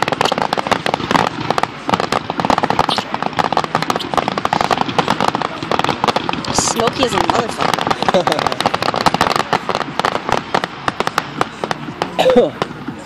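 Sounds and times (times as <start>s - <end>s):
fireworks popping rapidly: 0.0s - 13.0s.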